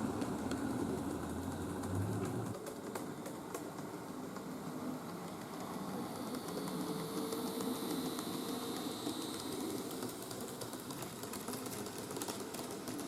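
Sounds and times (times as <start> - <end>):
model train motor whine: 0.0 - 2.6, 3.5 - 13.0
wheels clicking over rail joints: 0.0 - 13.0.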